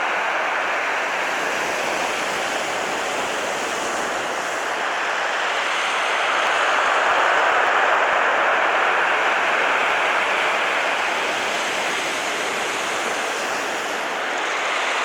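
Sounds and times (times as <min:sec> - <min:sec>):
sea surf washing ashore: 0:00.0 - 0:15.0.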